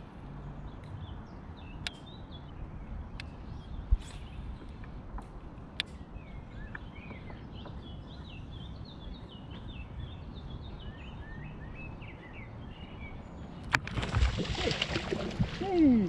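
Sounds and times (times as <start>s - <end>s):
low outdoor rumble: 0.0s - 16.0s
songbird singing: 0.0s - 16.0s.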